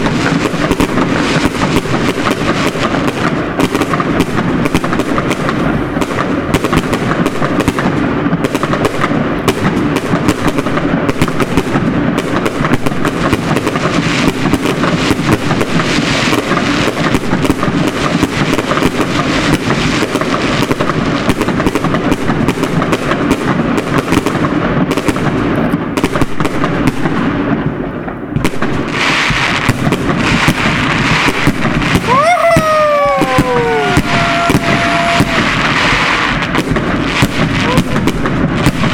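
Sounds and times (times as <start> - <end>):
fireworks bangs and crackles: 0.0 - 38.9
whistling fireworks: 0.0 - 38.9.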